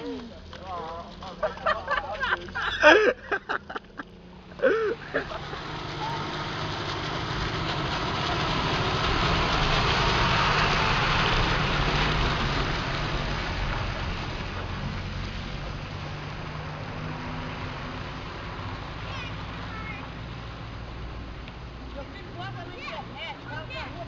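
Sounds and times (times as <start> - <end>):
bus diesel engine: 0.0 - 24.0
tyres hissing through wet mud: 1.1 - 21.2.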